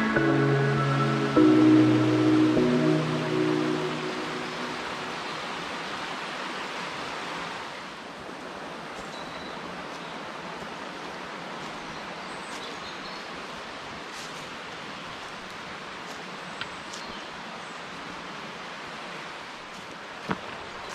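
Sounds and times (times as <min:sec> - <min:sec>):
mountain stream rushing: 0:00.0 - 0:20.9.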